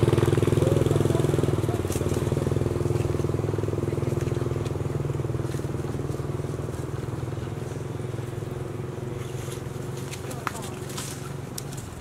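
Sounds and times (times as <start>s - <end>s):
motorcycle engine throbbing: 0.0s - 12.0s.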